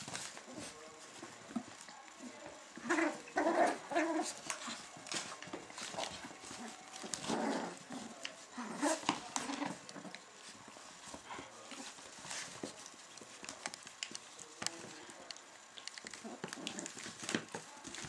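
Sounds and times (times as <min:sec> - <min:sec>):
puppies tapping and scuffling: 0:00.0 - 0:18.0
puppy vocal noises: 0:00.4 - 0:13.2, 0:15.6 - 0:18.0.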